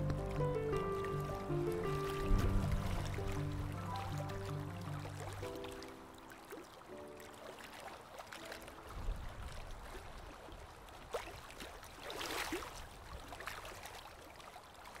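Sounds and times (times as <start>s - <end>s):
wash of water: 0.0s - 14.0s
lake water lapping: 0.0s - 15.0s.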